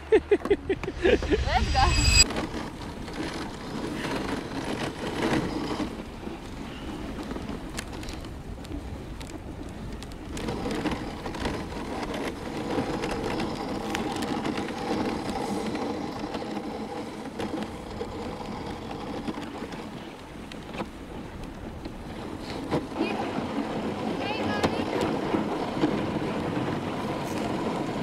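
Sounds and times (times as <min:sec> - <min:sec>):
sled runners scraping on snow: 0:00.7 - 0:28.0
sled knocks and rattles: 0:02.3 - 0:28.0.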